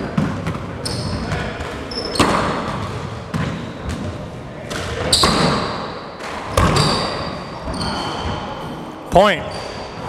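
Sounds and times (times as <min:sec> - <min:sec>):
sneakers squeaking on court: 0:00.0 - 0:04.2, 0:04.9 - 0:08.8.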